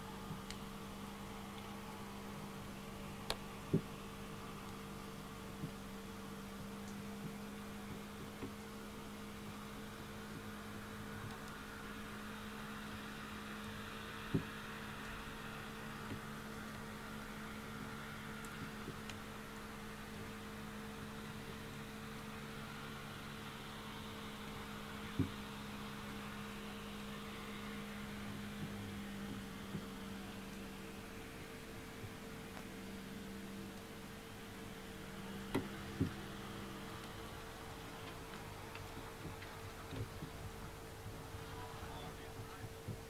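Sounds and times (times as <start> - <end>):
constant hiss: 0.0 - 43.0
steady low hum: 0.0 - 43.0.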